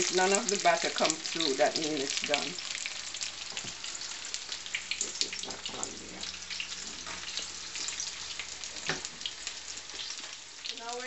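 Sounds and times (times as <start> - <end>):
fritters sizzling in hot oil: 0.0 - 11.0.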